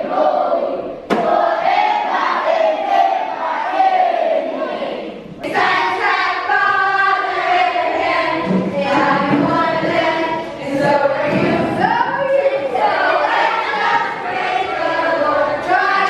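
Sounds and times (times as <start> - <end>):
children and adults singing: 0.0 - 16.0.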